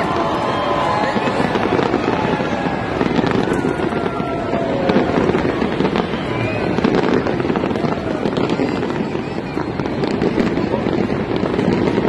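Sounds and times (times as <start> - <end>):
fireworks crackling and popping: 0.0 - 12.0
large crowd din: 0.0 - 12.0.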